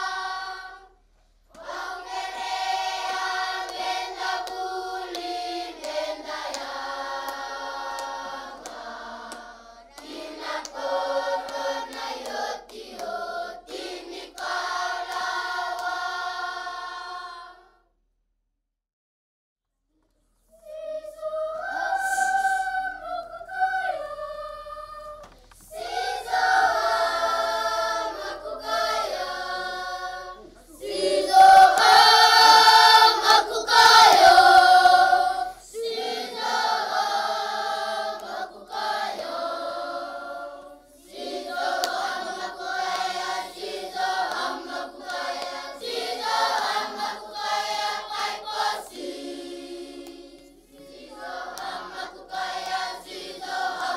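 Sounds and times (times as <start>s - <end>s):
choir singing: 0.0s - 17.8s, 20.5s - 53.9s.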